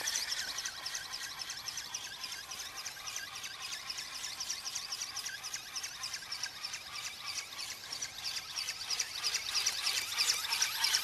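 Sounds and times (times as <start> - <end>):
rhythmic high-pitched whirring: 0.0 - 11.0.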